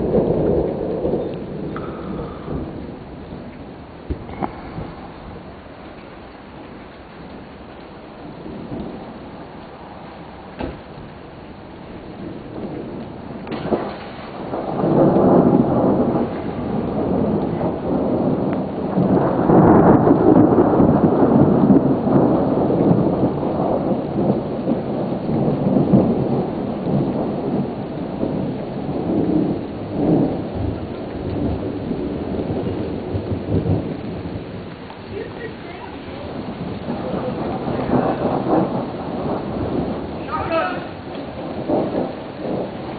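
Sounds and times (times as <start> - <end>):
steady rain: 0.0 - 42.9
thunder rumbling: 0.0 - 42.9.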